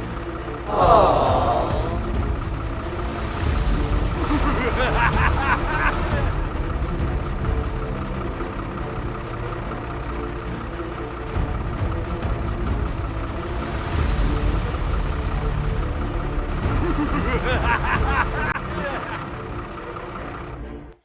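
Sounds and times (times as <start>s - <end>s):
construction vehicle engine rumble: 0.0s - 20.8s.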